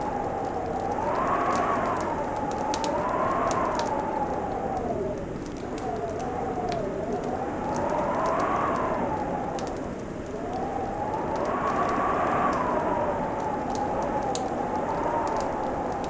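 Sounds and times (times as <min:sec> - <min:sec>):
wind howling: 0:00.0 - 0:16.0
wood fire crackling and popping: 0:00.0 - 0:16.0.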